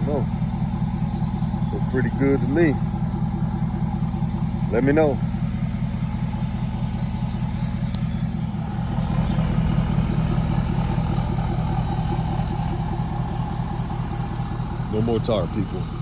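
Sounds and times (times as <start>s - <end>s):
pressure washer engine running: 0.0s - 16.0s.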